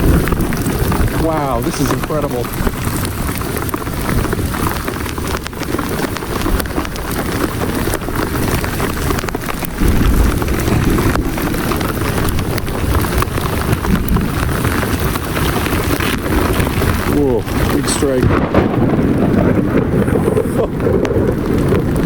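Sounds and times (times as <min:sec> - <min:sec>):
hail and heavy rain pelting: 0:00.0 - 0:22.0
wind buffeting microphone: 0:00.0 - 0:22.0.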